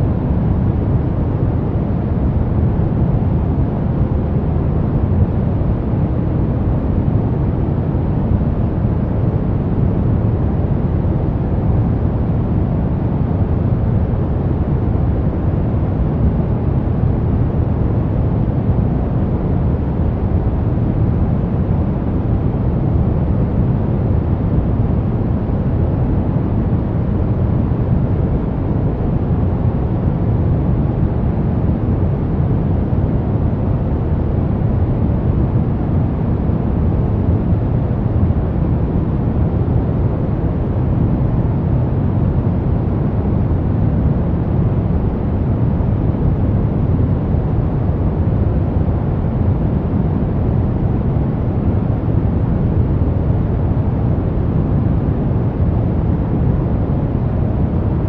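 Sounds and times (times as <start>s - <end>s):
deep rumbling brown noise: 0.0s - 58.0s.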